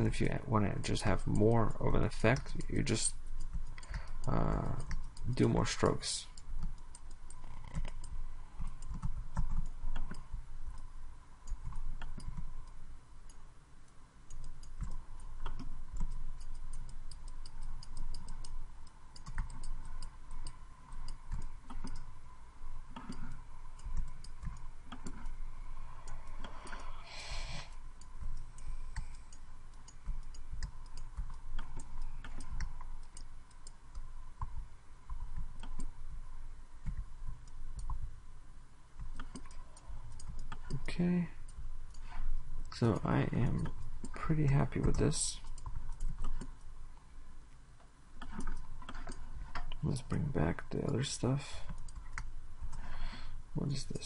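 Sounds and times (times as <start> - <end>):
keyboard and mouse clicks: 0.0 - 13.4, 14.3 - 22.1, 22.9 - 36.2, 36.8 - 38.1, 39.0 - 46.7, 48.2 - 51.0, 51.7 - 54.0
faint steady whine: 0.0 - 54.0.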